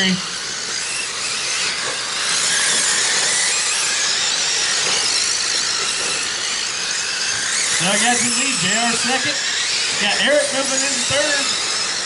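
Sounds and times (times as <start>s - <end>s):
high-pitched whine of rc trucks: 0.0s - 12.0s.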